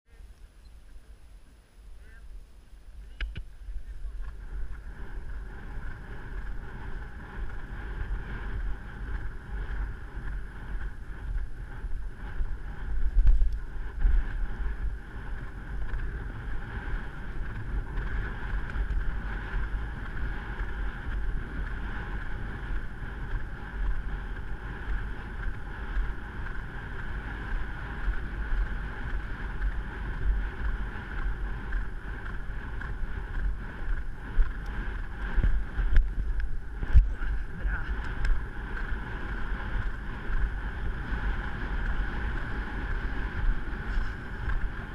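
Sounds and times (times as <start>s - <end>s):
wind buffeting microphone: 0.2s - 44.9s.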